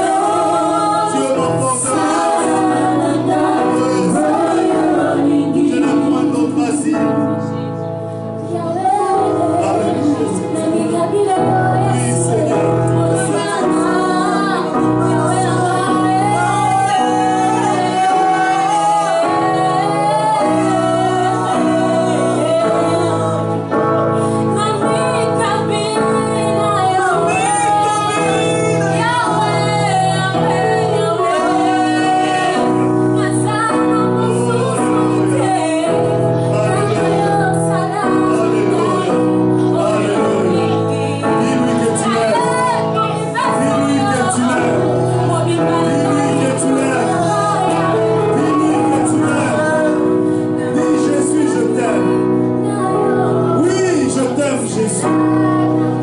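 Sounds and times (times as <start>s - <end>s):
woman singing: 0.0s - 7.7s, 8.4s - 56.0s
sustained instrumental chords: 0.0s - 56.0s.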